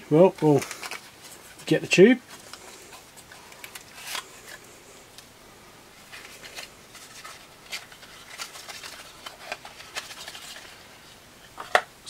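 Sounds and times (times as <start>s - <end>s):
packaging rustling: 0.2s - 5.3s, 5.9s - 11.8s.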